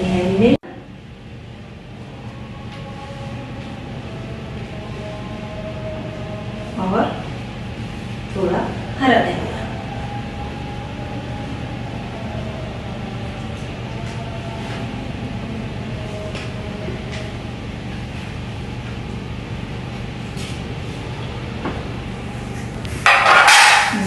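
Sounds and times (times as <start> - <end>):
machine humming and rumbling: 0.0 - 24.0.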